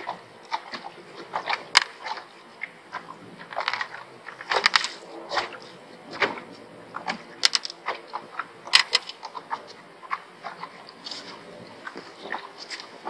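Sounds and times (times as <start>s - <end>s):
fishing tackle clicks and knocks: 0.0s - 2.2s, 3.0s - 13.0s.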